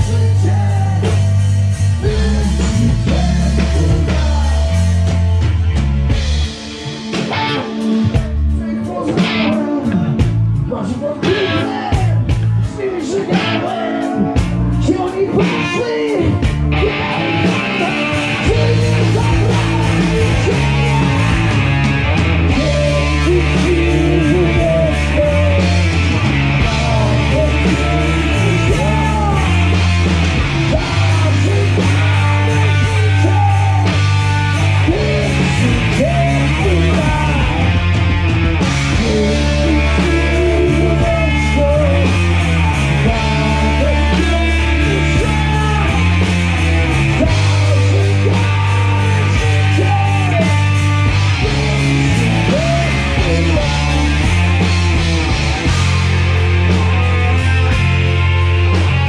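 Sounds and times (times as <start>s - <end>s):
rock band with guitar: 0.0s - 59.0s.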